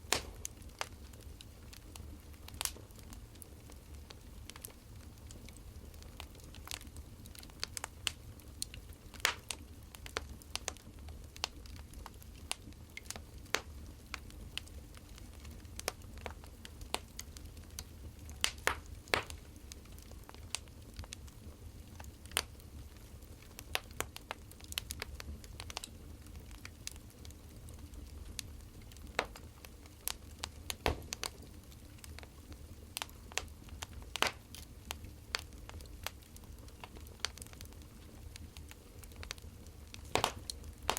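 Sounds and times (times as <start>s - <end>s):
burning firewood crackling: 0.0s - 40.9s.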